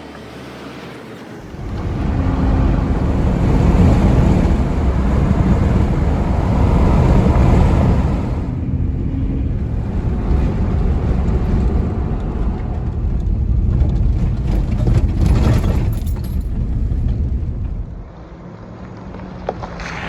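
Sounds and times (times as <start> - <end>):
low rumbling noise: 1.2 - 20.0.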